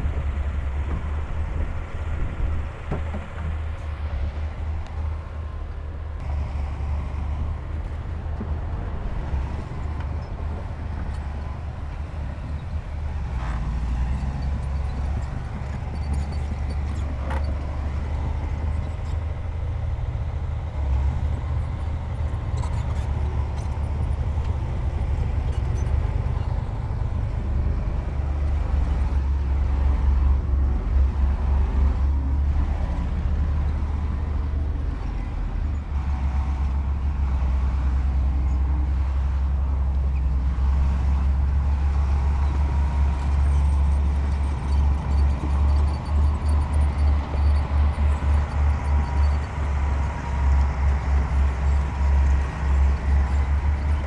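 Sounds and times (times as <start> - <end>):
diesel machinery rumbling: 0.0 - 54.0.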